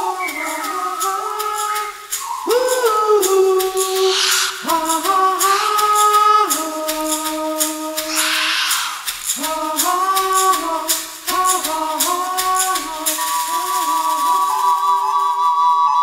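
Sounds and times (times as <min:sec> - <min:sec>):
person chanting: 0:00.0 - 0:15.3
hand rattle shaken: 0:00.0 - 0:16.0.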